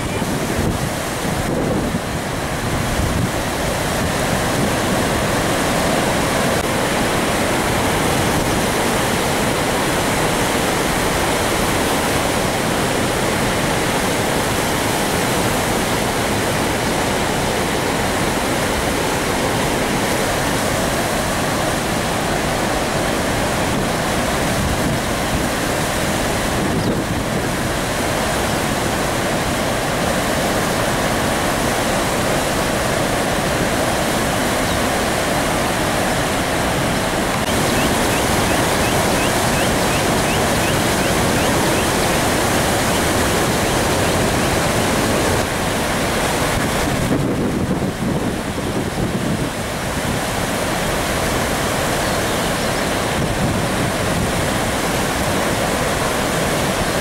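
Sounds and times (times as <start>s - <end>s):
water rushing through spillway: 0.0s - 57.0s.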